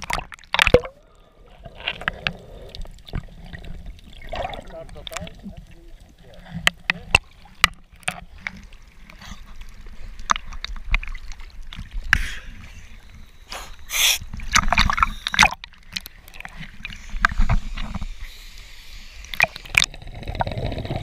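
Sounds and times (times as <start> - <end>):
water sloshing and splashing: 0.0 - 13.3, 14.2 - 18.3.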